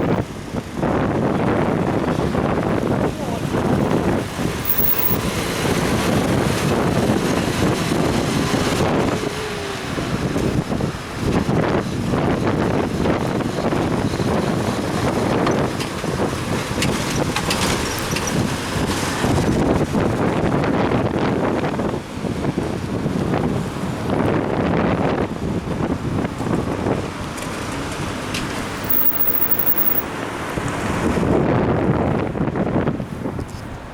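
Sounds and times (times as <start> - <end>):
wind buffeting microphone: 0.0 - 28.9, 30.2 - 33.9
road traffic in rain: 0.0 - 33.9.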